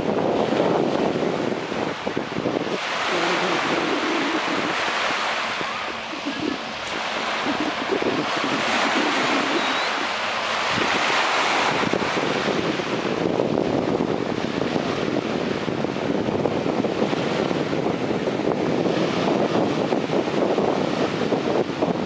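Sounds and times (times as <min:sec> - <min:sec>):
small waves washing: 0:00.0 - 0:21.4
wind buffeting microphone: 0:00.0 - 0:22.0.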